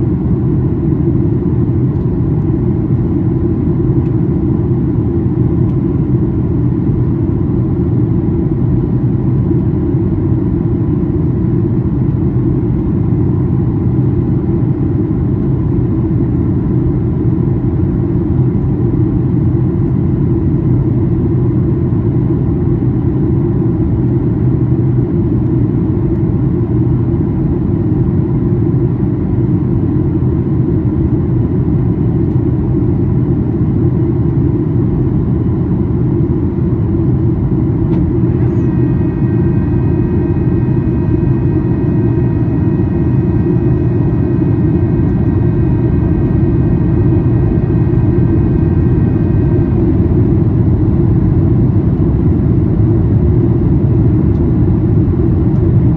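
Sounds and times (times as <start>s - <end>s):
airplane cabin drone: 0.0s - 55.9s
faint steady whine: 0.0s - 55.9s.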